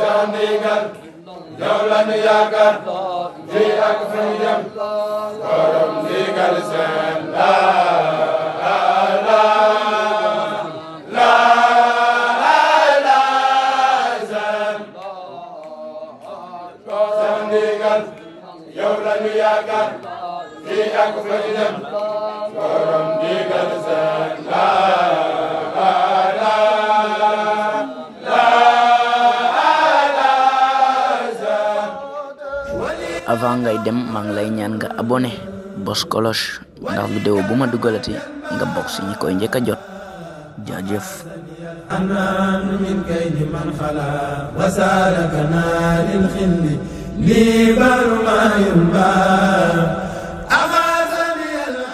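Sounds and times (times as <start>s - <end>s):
men chanting together: 0.0s - 51.9s.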